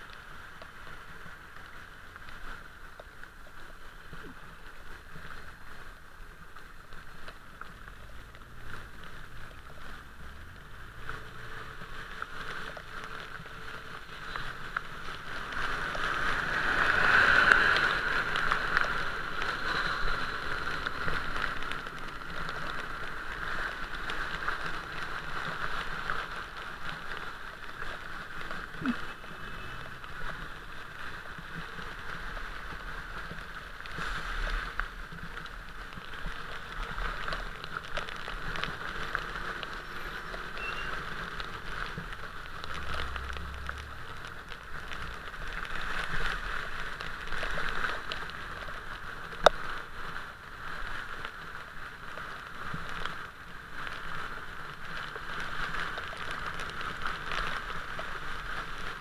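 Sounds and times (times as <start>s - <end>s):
bicycle tyres splashing through water: 0.0s - 59.0s.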